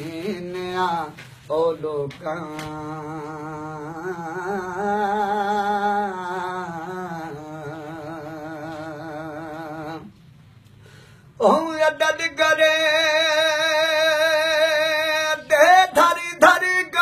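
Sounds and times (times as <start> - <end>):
man singing unaccompanied: 0.0 - 10.2, 11.4 - 17.0.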